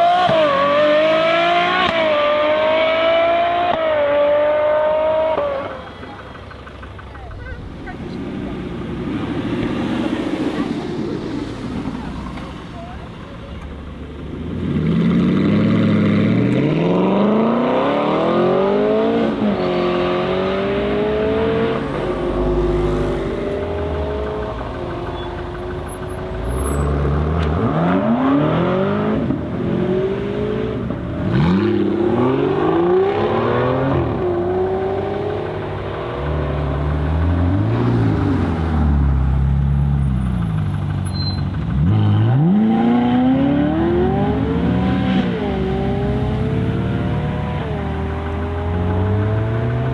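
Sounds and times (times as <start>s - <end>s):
sports car engines accelerating: 0.0s - 49.9s.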